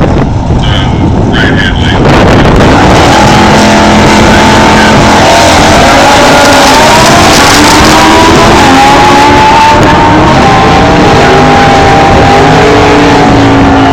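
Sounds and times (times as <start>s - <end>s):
loud engine running hard: 1.8s - 13.9s.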